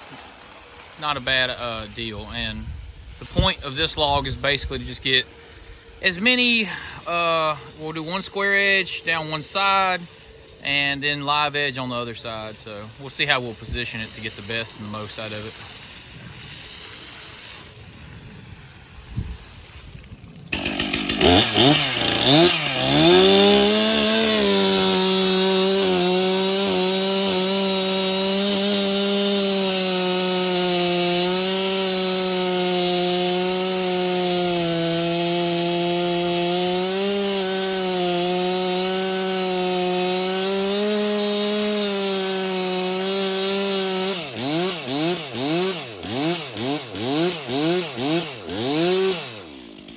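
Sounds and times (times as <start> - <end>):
chainsaw cutting log: 0.0 - 49.9.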